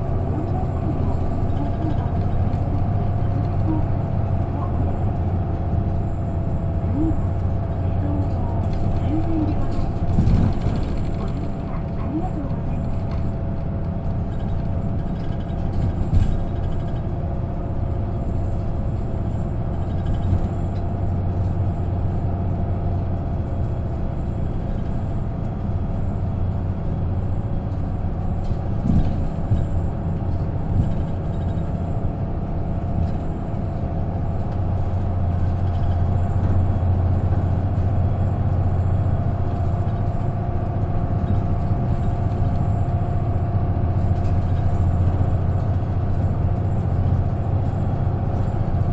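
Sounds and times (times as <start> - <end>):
bus engine drone and whine: 0.0 - 48.9.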